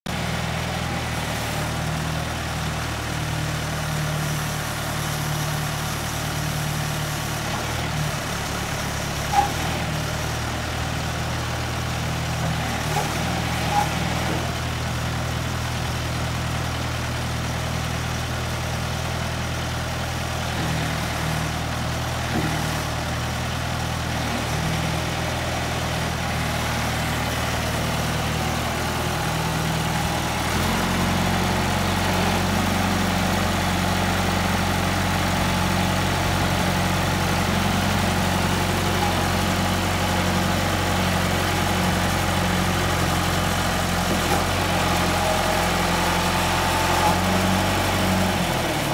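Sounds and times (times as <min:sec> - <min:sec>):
backhoe engine running: 0:00.1 - 0:48.9.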